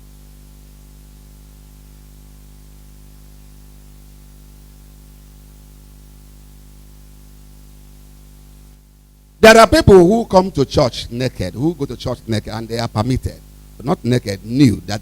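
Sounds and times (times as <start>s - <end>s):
electrical mains hum: 0.0s - 15.0s
faint sound system hiss: 0.0s - 15.0s.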